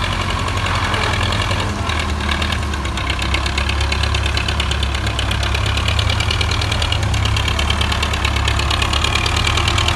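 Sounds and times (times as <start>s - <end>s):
tractor diesel engine clattering: 0.0s - 9.9s.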